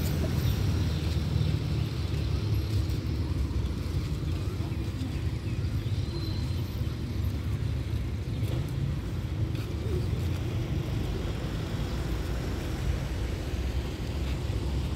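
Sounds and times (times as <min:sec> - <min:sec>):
low rumble of background noise: 0:00.0 - 0:14.9.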